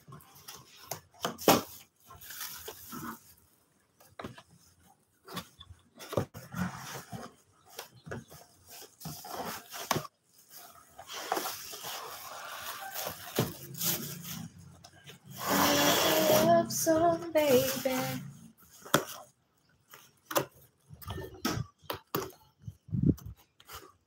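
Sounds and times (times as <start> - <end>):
plastic wrapping crinkling: 0.0 - 21.4.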